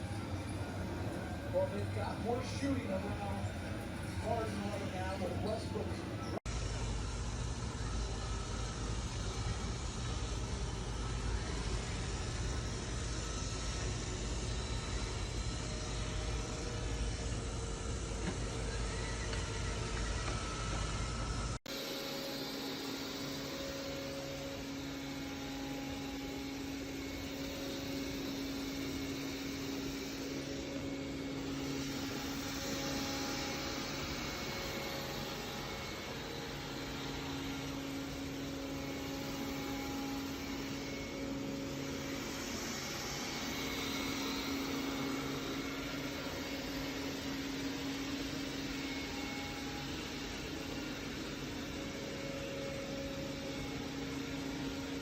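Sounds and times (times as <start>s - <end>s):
robot vacuum running: 7.1s - 55.0s.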